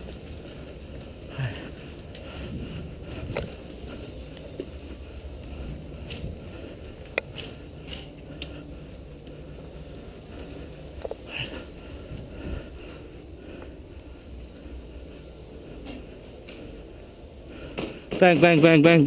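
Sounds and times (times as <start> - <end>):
low rumble of movement and wind: 0.0 - 18.2.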